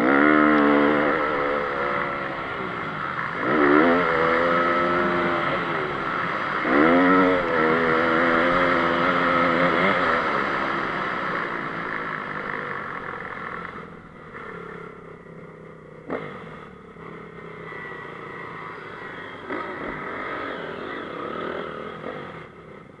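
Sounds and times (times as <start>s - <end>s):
motorbike engine revving: 0.0s - 15.2s, 15.9s - 22.9s.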